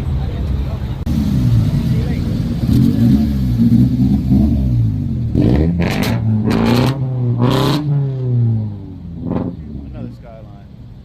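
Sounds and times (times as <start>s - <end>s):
car engine revving: 1.0s - 10.5s.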